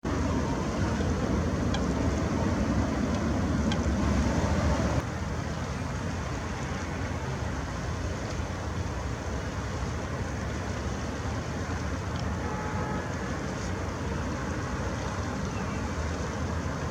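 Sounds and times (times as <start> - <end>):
distant road traffic rumble: 0.0 - 16.9.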